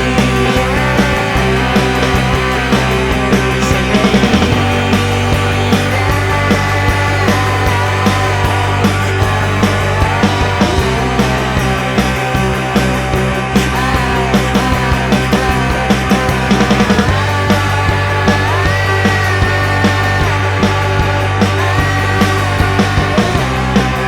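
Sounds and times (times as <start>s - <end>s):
grungy rock band music: 0.0s - 24.0s.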